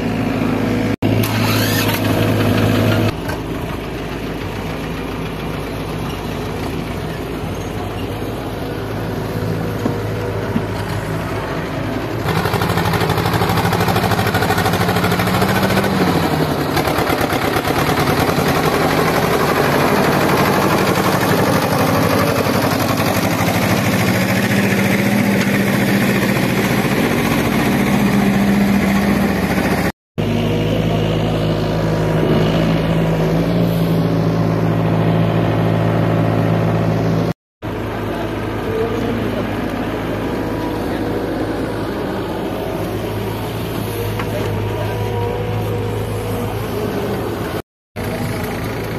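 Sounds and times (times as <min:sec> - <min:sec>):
excavator engine digging: 0:00.0 - 0:48.9
tractor diesel engine: 0:00.0 - 0:48.9.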